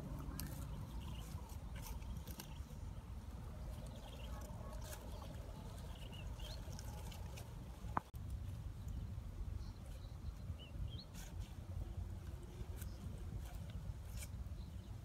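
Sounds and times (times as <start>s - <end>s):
grass rustling and crackling: 0.0s - 15.0s
steady low rumble: 0.0s - 15.0s.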